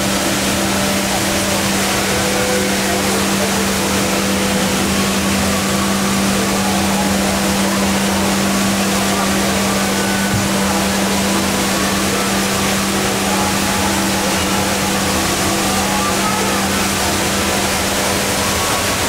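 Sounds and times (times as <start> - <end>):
indoor waterfall rushing: 0.0 - 19.0.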